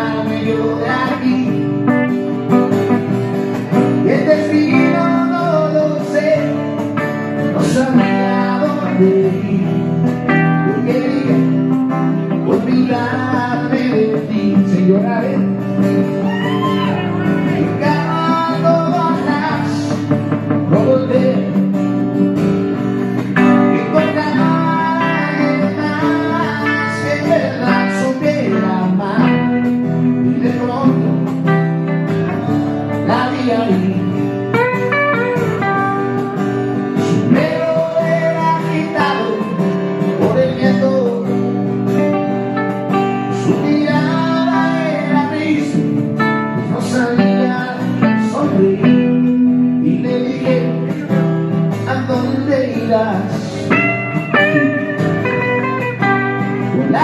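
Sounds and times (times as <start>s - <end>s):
acoustic band music with guitar: 0.0s - 57.0s.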